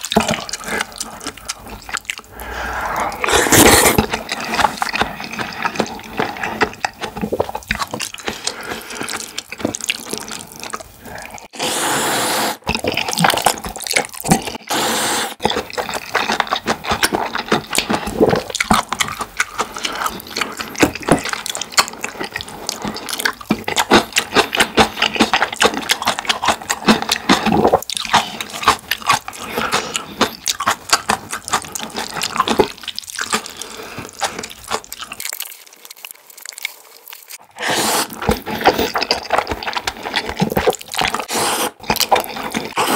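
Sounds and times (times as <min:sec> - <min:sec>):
wet chewing: 0:00.0 - 0:11.5, 0:12.6 - 0:14.7, 0:15.3 - 0:42.9.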